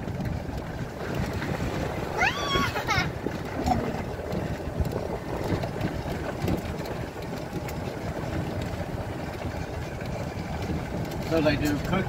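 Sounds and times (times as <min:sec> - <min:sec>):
golf cart rumbling: 0:00.0 - 0:12.0
light rattles: 0:00.0 - 0:12.0
wind buffeting microphone: 0:00.0 - 0:12.0.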